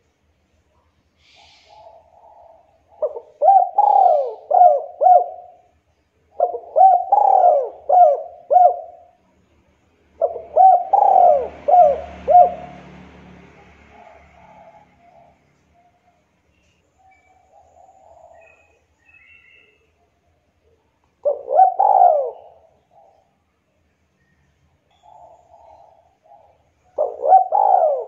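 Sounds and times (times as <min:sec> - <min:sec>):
dove cooing: 0:01.2 - 0:09.2, 0:10.2 - 0:16.3, 0:17.0 - 0:19.8, 0:20.6 - 0:23.4, 0:24.9 - 0:28.0.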